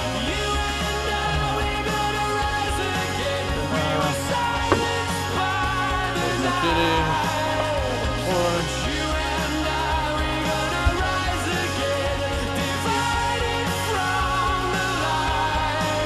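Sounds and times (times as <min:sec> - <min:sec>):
song with band accompaniment: 0:00.0 - 0:16.0.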